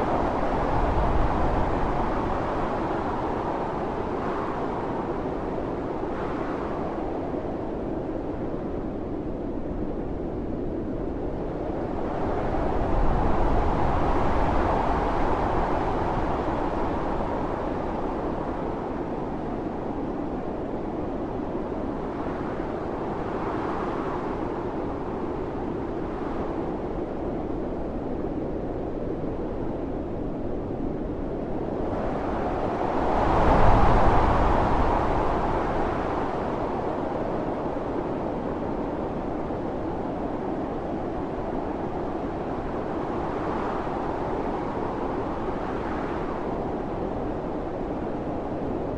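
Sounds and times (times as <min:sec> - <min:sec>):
howling storm wind: 0:00.0 - 0:48.9.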